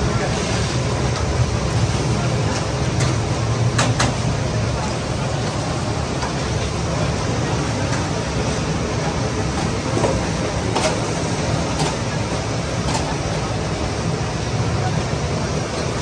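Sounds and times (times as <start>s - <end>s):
kitchen rumble: 0.0s - 14.8s.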